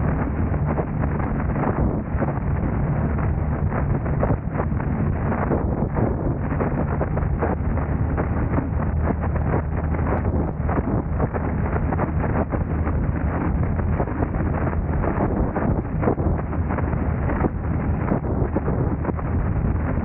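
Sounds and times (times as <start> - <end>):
car driving noise: 0.0 - 20.0.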